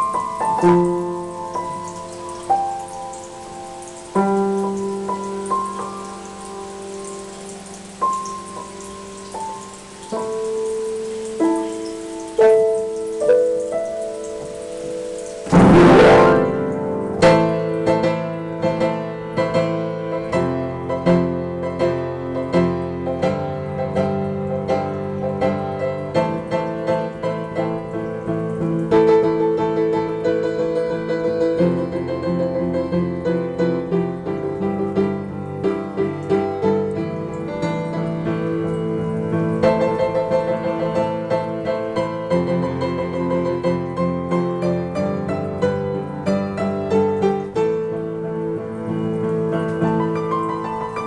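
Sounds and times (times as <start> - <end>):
solo piano playing: 0.0 - 51.0.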